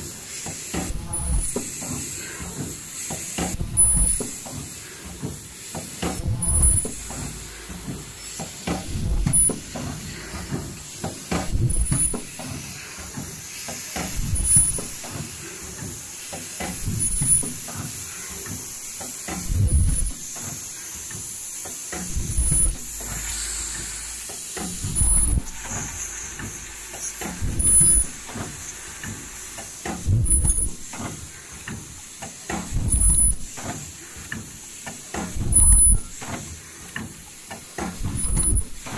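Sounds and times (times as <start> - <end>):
machine thumps: 0.0 - 38.9
pneumatic hissing: 0.0 - 38.9.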